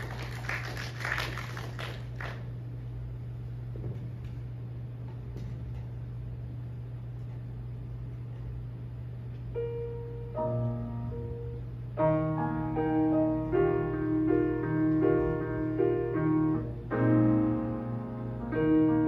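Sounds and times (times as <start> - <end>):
steady low hum: 0.0 - 19.0
grand piano chords: 2.0 - 19.0.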